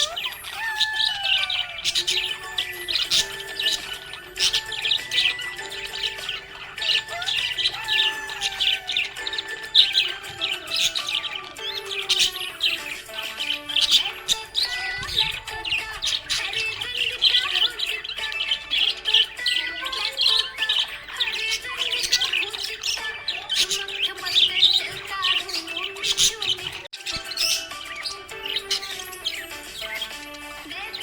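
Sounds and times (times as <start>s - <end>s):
background music: 0.0s - 31.0s
budgerigar chirping: 0.0s - 31.0s.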